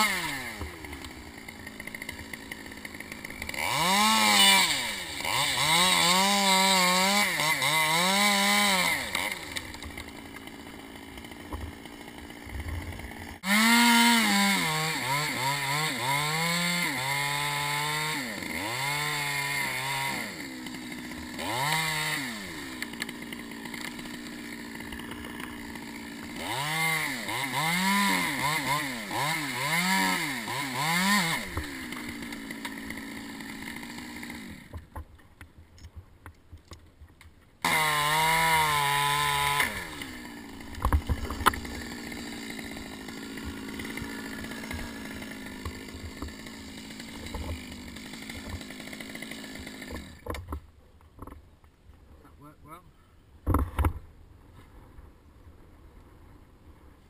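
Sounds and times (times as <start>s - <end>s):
chainsaw revving and idling: 0.0s - 35.0s, 37.6s - 50.6s.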